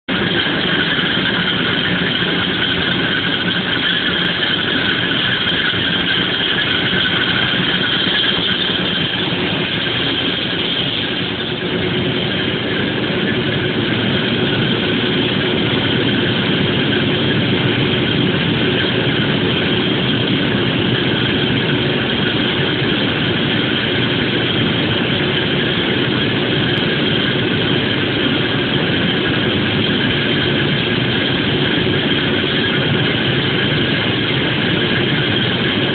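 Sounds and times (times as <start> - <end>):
high machine whine: 0.0 - 35.9.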